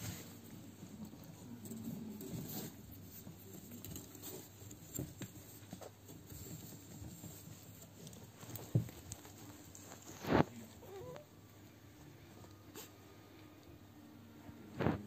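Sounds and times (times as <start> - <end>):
puppies stirring on bedding: 0.0 - 15.0.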